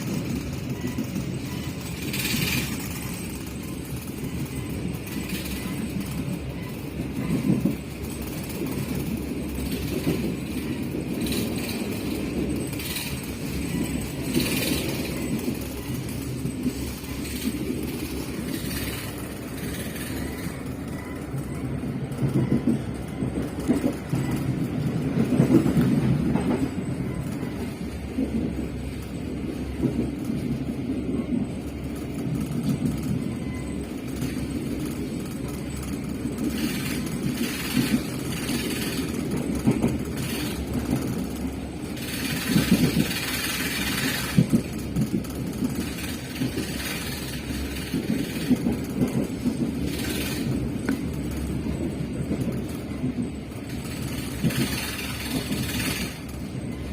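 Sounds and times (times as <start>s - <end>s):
train rumbling on rails: 0.0s - 56.9s
train wheels knocking: 0.0s - 56.9s.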